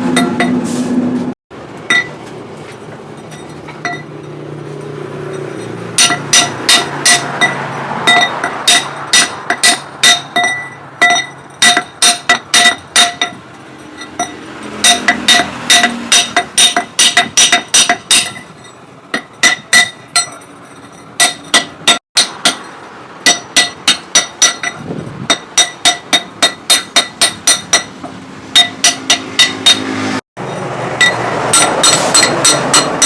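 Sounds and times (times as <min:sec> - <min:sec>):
hammer ringing on anvil: 0:00.0 - 0:00.6, 0:01.9 - 0:33.0.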